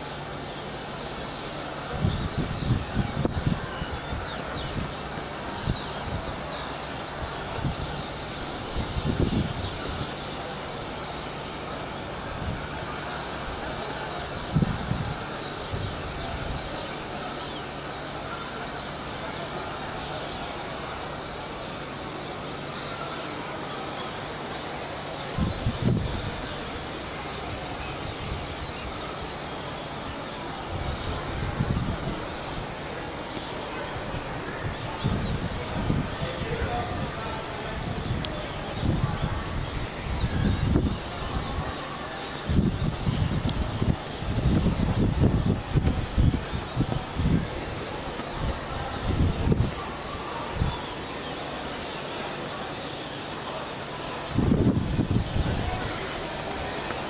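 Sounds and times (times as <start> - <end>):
city noise: 0.0 - 57.0
flock of birds chirping: 0.0 - 57.0.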